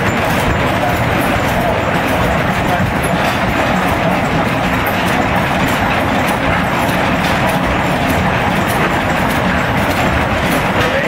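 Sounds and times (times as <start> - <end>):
stationary engines clattering: 0.0 - 11.0.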